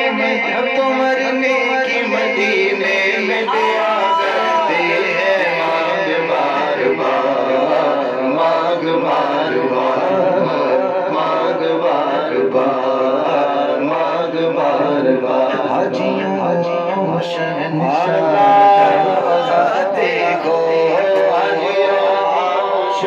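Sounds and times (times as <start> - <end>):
men chanting devotional song: 0.0 - 23.0.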